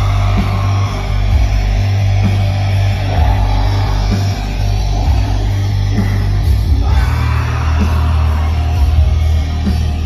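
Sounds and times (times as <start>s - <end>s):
distorted electric guitars: 0.0s - 10.0s
drums: 0.0s - 10.0s.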